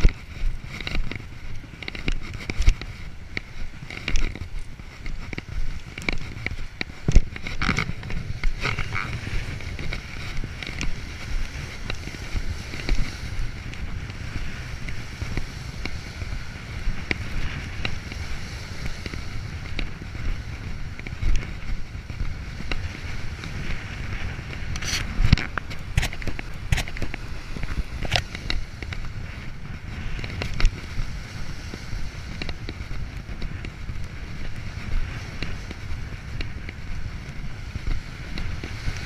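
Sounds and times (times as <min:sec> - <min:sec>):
footsteps on concrete: 0:00.0 - 0:39.0
wind buffeting microphone: 0:00.0 - 0:39.0.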